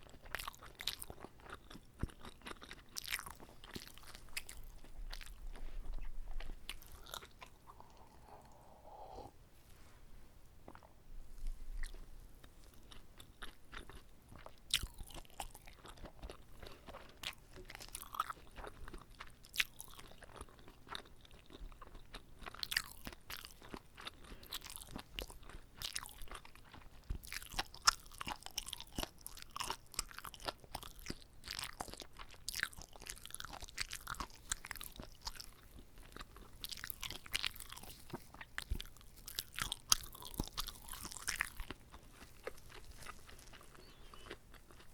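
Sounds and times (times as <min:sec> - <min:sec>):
crunchy wet chewing: 0:00.0 - 0:09.4, 0:10.6 - 0:44.9.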